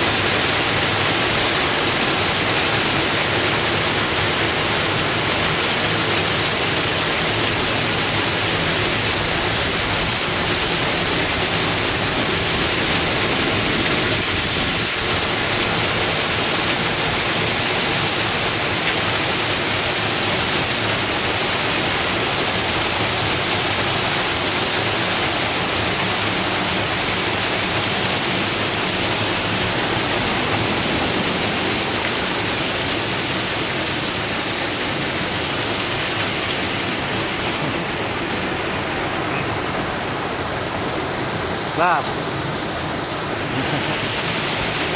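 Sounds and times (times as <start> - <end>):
waterfall splashing into sea: 0.0 - 44.9.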